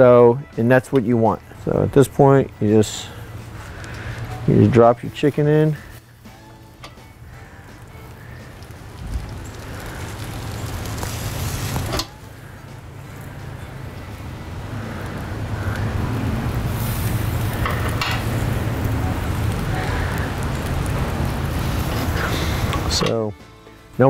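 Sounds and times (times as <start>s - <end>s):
hiss and sizzle on coals: 0.0s - 24.0s.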